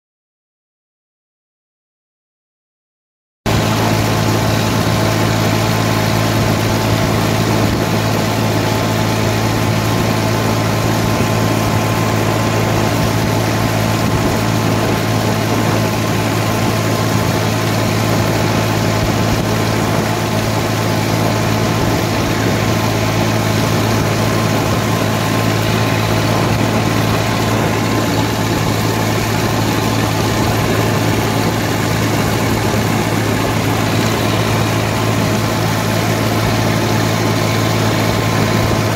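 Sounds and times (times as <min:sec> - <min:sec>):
tractor diesel engine running: 0:03.5 - 0:38.9.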